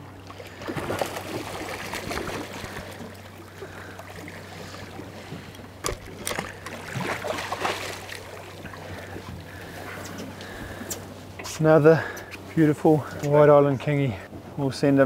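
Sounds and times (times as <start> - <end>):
steady low hum: 0.0 - 15.0
water splashing against boat: 0.0 - 15.0.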